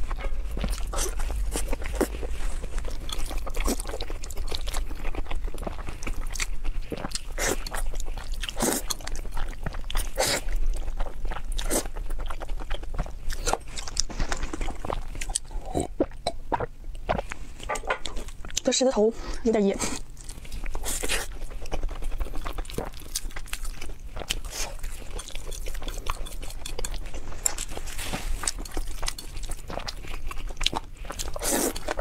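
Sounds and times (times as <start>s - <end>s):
person chewing and slurping noodles: 0.0s - 18.6s, 19.8s - 32.0s.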